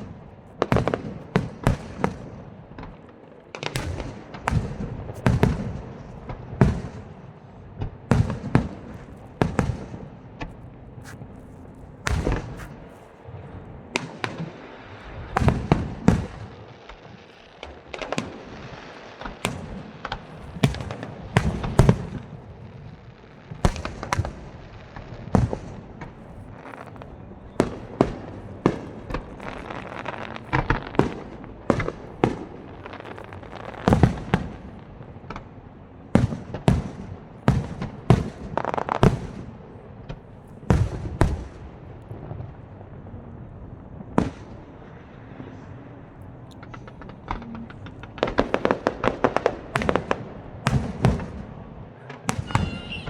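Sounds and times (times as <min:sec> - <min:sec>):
aerial fireworks bursting: 0:00.0 - 0:07.3, 0:08.1 - 0:42.6, 0:46.6 - 0:53.0.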